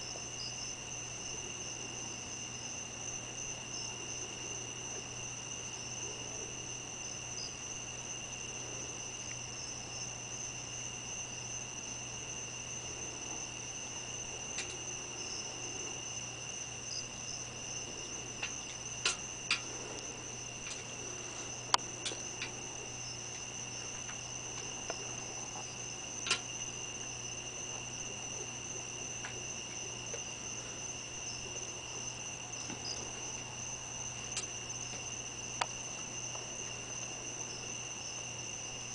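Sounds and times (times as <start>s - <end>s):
faint low hum: 0.0s - 38.9s
night insects trilling: 0.0s - 38.9s.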